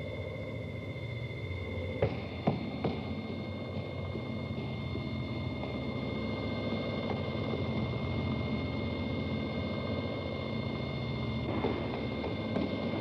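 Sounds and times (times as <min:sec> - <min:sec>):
steady mechanical drone: 0:00.0 - 0:13.0.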